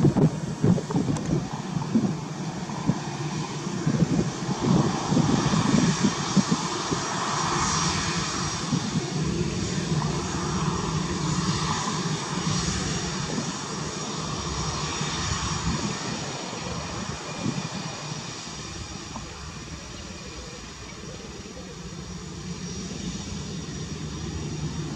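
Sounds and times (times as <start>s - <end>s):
jet engines rushing: 0.0s - 24.9s.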